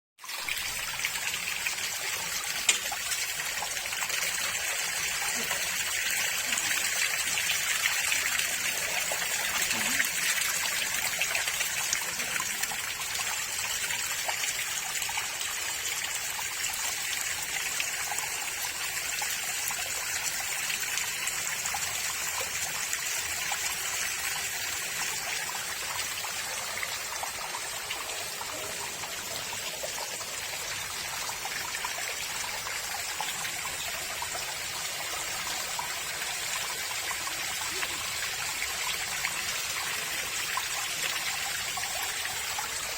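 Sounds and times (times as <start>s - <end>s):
small waterfall splashing: 0.2s - 42.9s.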